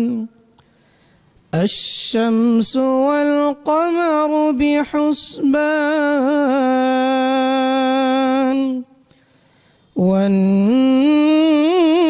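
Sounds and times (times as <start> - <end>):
man reciting melodically: 0.0 - 0.6, 1.5 - 9.0, 9.9 - 12.0.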